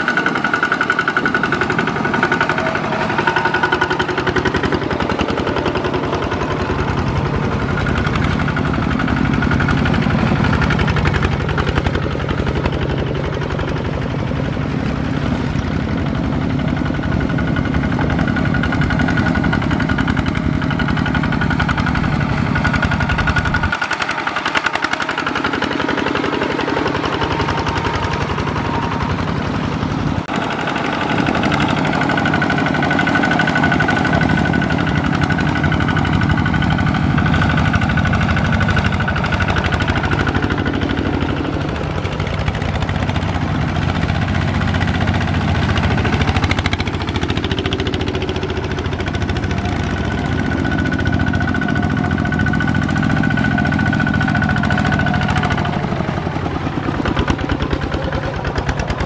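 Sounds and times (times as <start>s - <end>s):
small diesel engine chugging: 0.0s - 59.0s.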